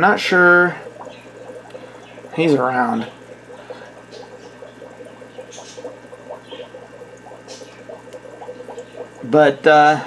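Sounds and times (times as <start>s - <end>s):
aquarium filter bubbling: 0.0s - 10.0s.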